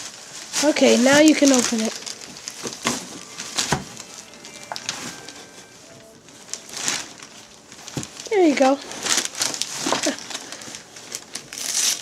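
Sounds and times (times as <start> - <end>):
wrapping paper rustling and tearing: 0.0 - 12.0.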